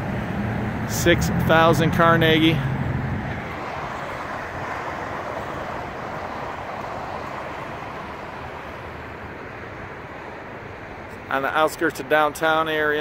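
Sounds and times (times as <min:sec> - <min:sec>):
passing vehicles rushing: 0:00.0 - 0:13.0.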